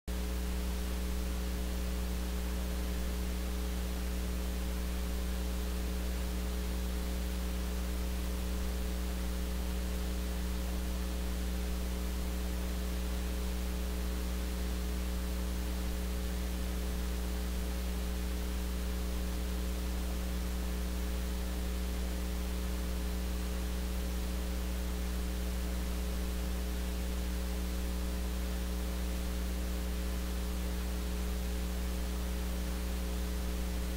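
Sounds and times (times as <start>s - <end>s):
electrical mains hum: 0.1s - 33.9s.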